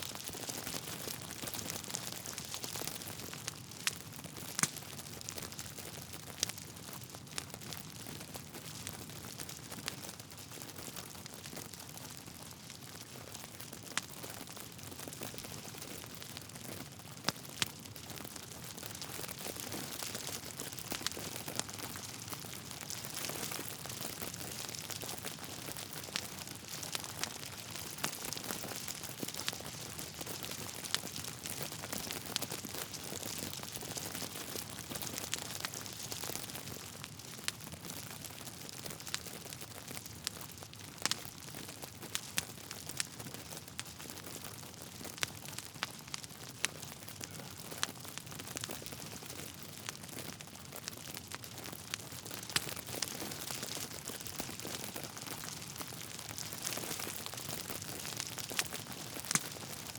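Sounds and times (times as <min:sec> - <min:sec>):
burning logs popping: 0:00.0 - 0:59.9
wood fire crackling: 0:00.0 - 0:59.9.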